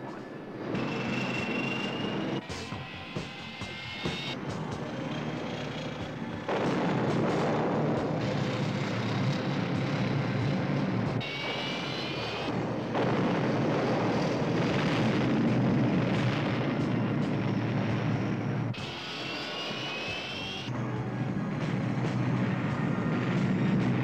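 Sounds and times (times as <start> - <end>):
high engine whine rising: 0.0 - 24.0
turboprop engines droning: 0.0 - 24.0.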